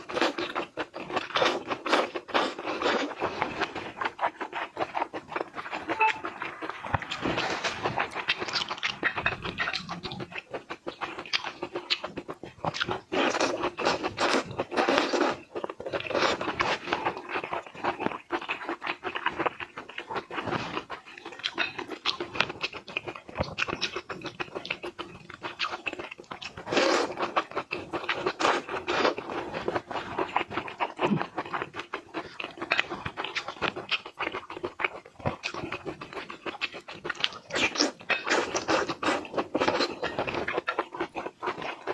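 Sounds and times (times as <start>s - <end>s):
seafood chewing and crunching: 0.0s - 41.9s.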